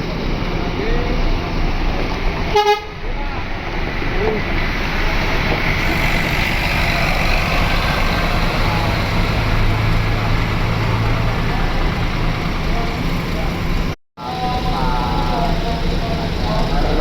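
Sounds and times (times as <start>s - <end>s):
dense traffic noise: 0.0s - 17.0s
heavy vehicle engine running: 0.0s - 17.0s.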